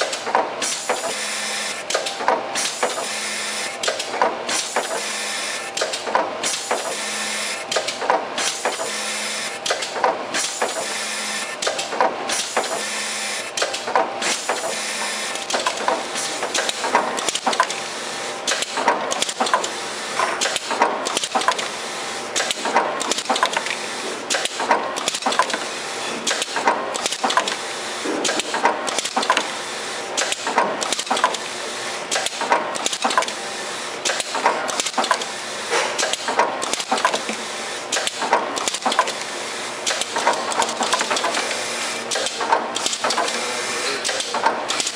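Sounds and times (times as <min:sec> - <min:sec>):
mechanical clicks and clacks: 0:00.0 - 0:05.1, 0:05.7 - 0:09.0, 0:09.6 - 0:44.9
machine whirring and hissing: 0:00.0 - 0:44.9.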